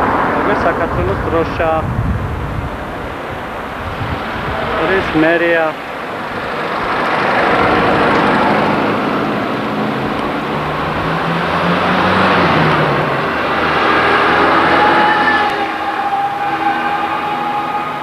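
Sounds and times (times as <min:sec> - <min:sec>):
road noise: 0:00.0 - 0:18.0
vehicle engine: 0:00.0 - 0:18.0.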